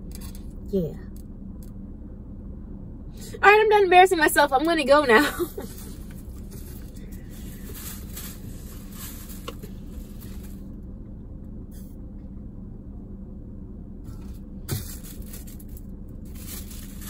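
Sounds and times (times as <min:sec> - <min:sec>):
low hum inside a car: 0:00.0 - 0:17.0.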